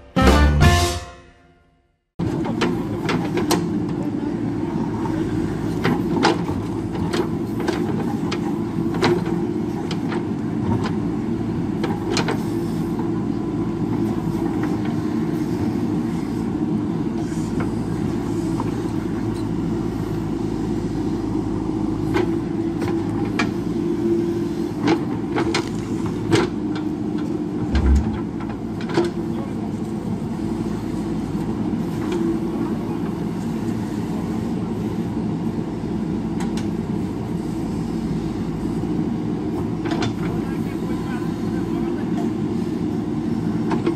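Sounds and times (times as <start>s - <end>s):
diesel engine under load: 2.2s - 43.9s.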